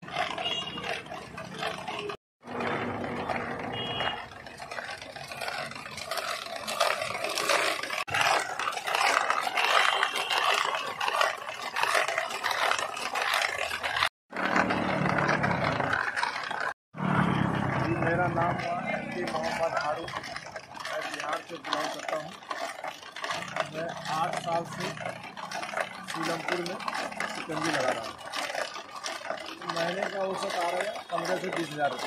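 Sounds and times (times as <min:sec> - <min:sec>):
ice grinding against metal canister: 0:00.0 - 0:32.0.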